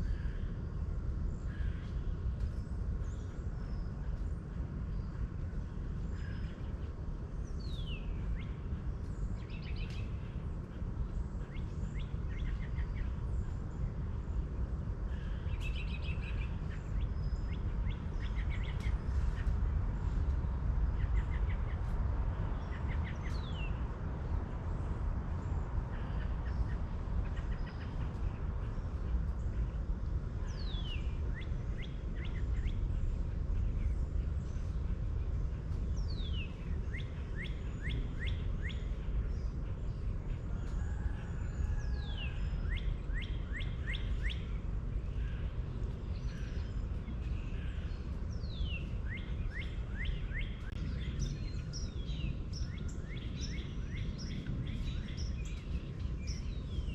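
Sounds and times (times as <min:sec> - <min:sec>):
songbird singing: 0:00.0 - 0:56.9
steady low rumble: 0:00.0 - 0:56.9.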